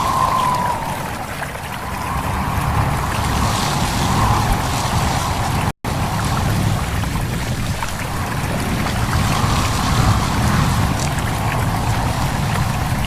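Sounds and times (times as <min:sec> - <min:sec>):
wind through leaves: 0:00.0 - 0:13.0.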